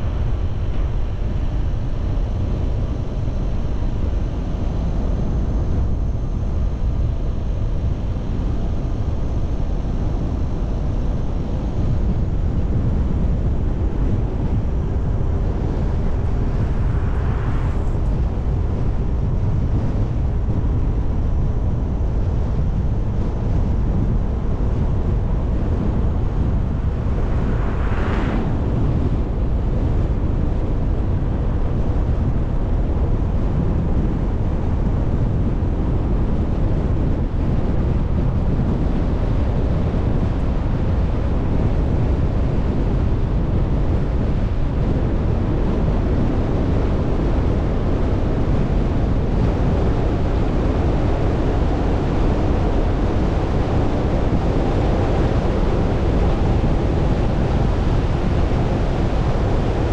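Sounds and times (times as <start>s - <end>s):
wind and road noise: 0.0s - 59.9s
wind buffeting microphone: 0.0s - 59.9s.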